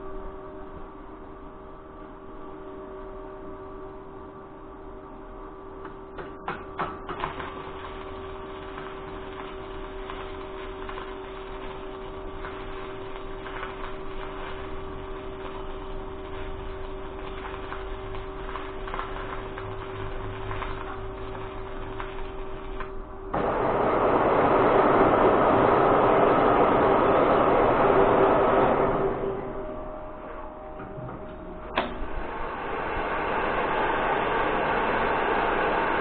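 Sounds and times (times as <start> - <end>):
electrical hum: 0.0 - 36.0
arc welding crackle: 5.8 - 30.4, 31.6 - 36.0.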